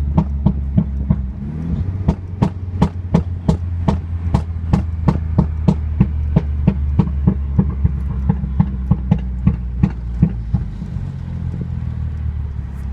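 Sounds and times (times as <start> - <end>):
car engine and exhaust droning: 0.0 - 12.9
exhaust popping and crackling: 0.0 - 12.9.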